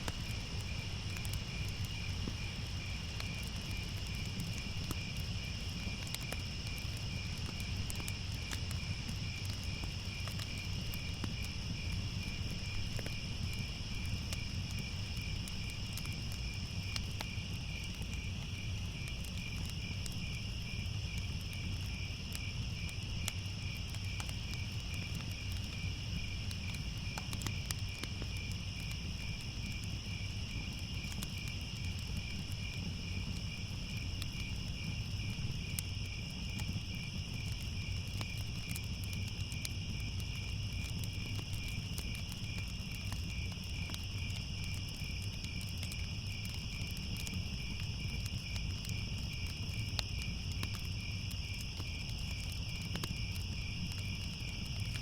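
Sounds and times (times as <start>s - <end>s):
crickets chirping: 0.0s - 55.0s
fire crackling: 0.0s - 55.0s.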